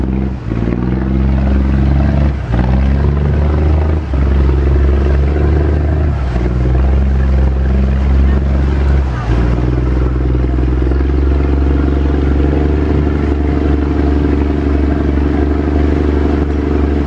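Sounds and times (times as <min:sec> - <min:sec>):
speedboat engine droning: 0:00.0 - 0:17.0.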